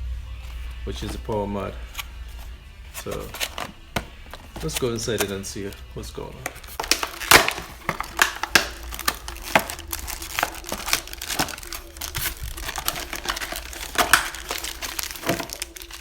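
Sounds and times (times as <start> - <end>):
packaging rustling and crinkling: 0.4 - 16.0.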